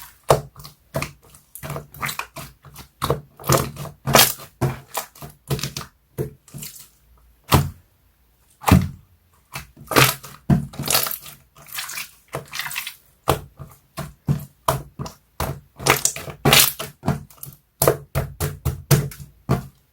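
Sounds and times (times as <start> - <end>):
slime squelching: 0.0 - 7.8, 8.4 - 19.9.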